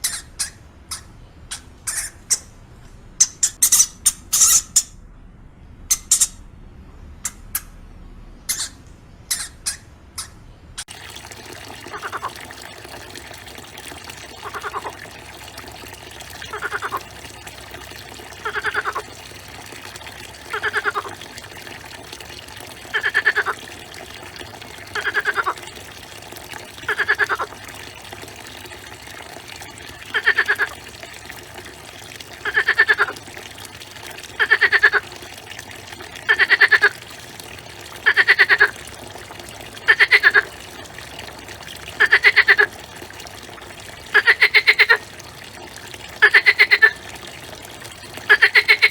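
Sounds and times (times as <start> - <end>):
running water: 8.5 - 48.9.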